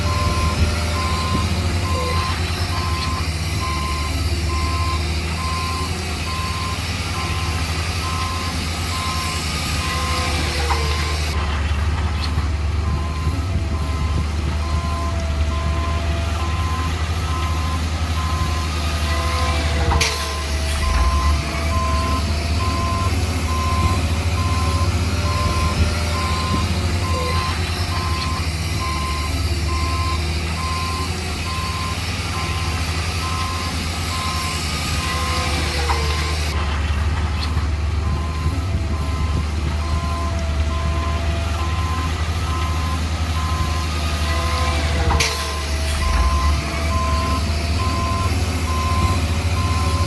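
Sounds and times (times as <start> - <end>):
heavy vehicle engine running: 0.0 - 50.0
reversing alarm beeps: 0.1 - 11.4, 12.8 - 36.4, 38.1 - 50.0.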